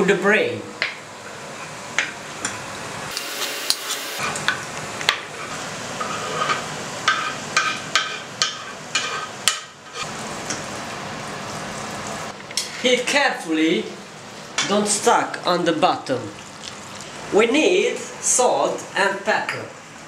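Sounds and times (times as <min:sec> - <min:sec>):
steady frying sizzle: 0:00.7 - 0:20.0.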